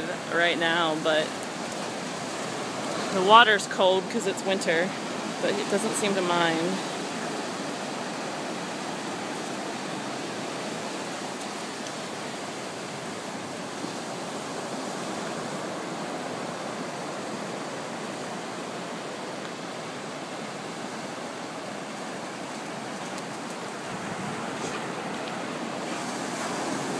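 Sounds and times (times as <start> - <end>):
ocean surf breaking: 0.0 - 26.9.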